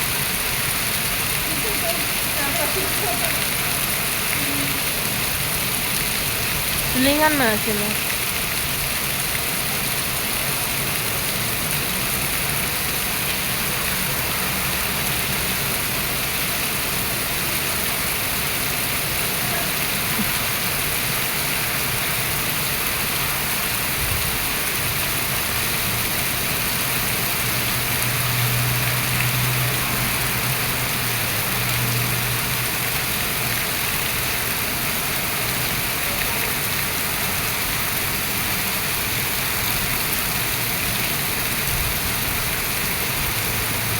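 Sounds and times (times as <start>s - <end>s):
rain falling steadily: 0.0s - 43.9s.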